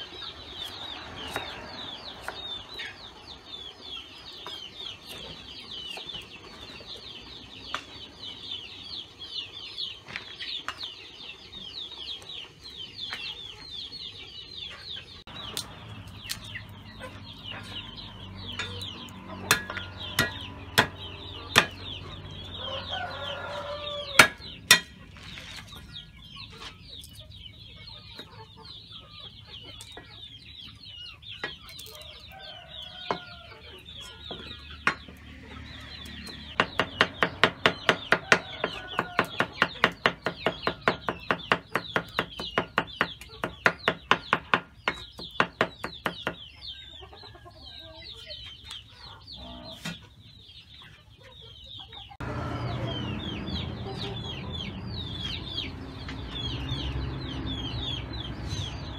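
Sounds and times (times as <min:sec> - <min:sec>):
chickens clucking: 0:00.0 - 0:58.9.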